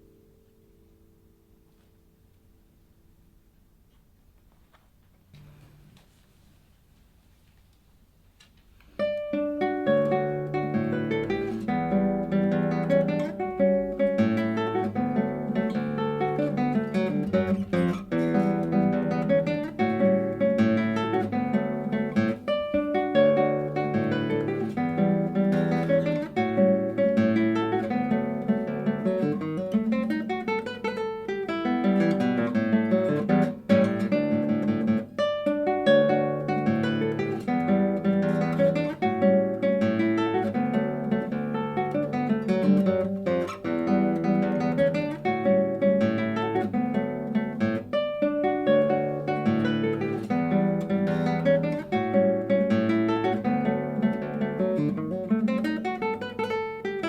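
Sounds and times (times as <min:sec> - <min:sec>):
fingerpicked classical guitar: 0:00.0 - 0:06.6, 0:08.4 - 0:57.0.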